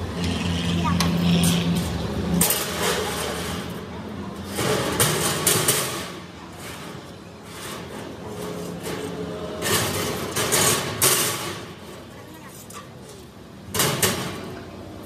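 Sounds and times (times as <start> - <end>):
steel sheets scraping and clattering: 0.2 - 14.7.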